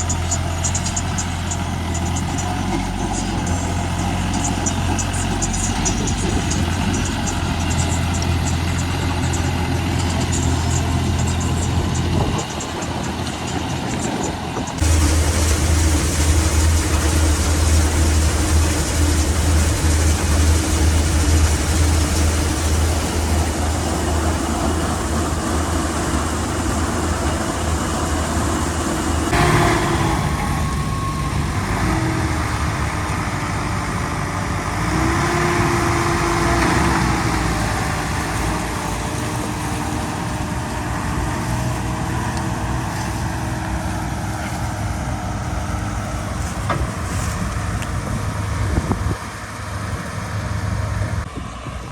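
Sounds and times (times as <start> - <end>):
different engine noise: 0.0 - 51.9
tractor engine running: 0.0 - 51.9.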